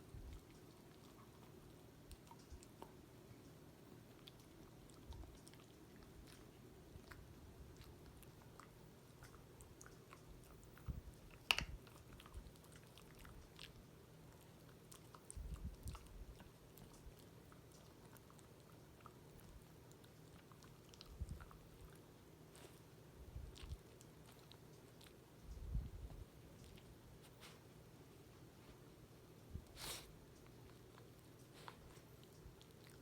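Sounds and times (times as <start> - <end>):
dog chewing a treat: 0.1 - 27.6, 30.3 - 33.0.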